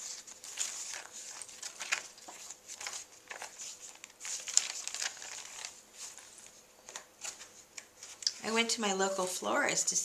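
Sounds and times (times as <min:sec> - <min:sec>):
paper rustling and crinkling: 0:00.0 - 0:08.6.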